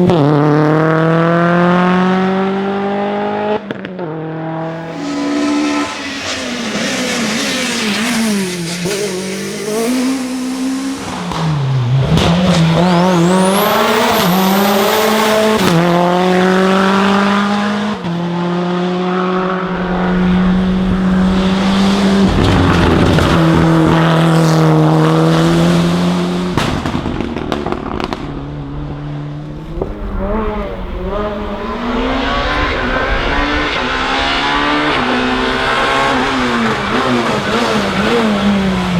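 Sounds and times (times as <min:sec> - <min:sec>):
racing car engines at high revs: 0:00.0 - 0:38.9.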